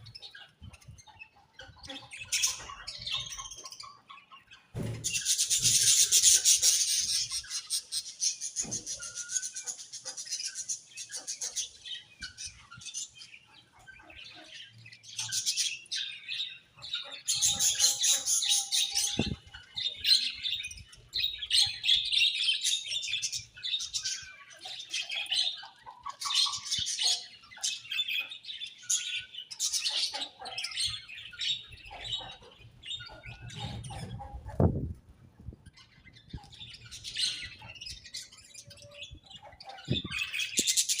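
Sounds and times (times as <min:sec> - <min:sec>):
budgerigars chattering: 0:00.0 - 0:34.8, 0:35.9 - 0:41.0.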